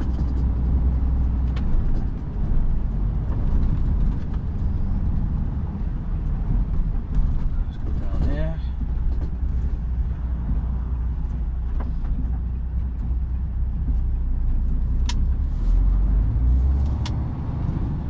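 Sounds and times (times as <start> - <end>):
lorry engine and road rumble: 0.0 - 18.0.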